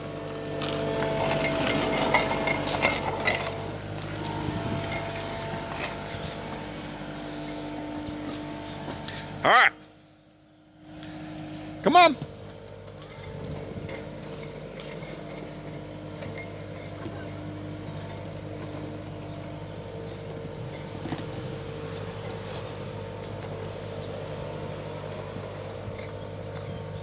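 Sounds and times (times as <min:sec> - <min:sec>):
skid steer engine running: 0:00.0 - 0:27.0.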